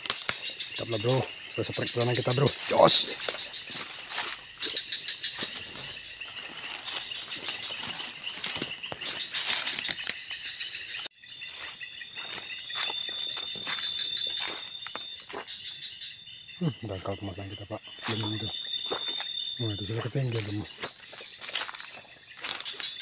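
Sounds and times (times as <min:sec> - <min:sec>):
crickets trilling: 0:00.0 - 0:23.0
loud pulsing insect call: 0:00.0 - 0:23.0
footsteps rustling through undergrowth: 0:01.0 - 0:15.7, 0:17.9 - 0:23.0.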